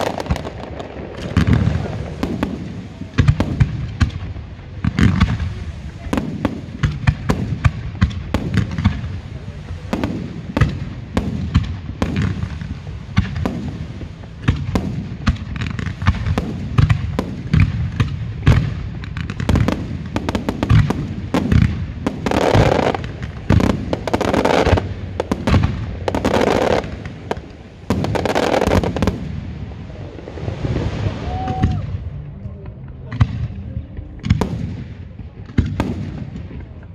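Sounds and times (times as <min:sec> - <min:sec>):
fireworks bursting: 0:00.0 - 0:32.2, 0:33.0 - 0:36.9
fireworks crackling: 0:00.0 - 0:36.9.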